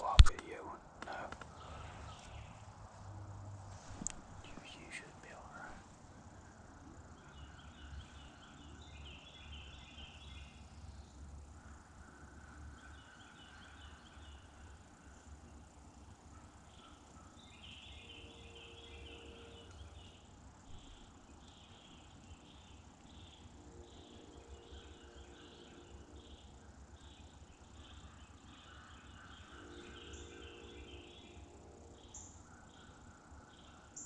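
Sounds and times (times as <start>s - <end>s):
night insects chirping: 0.0s - 34.0s.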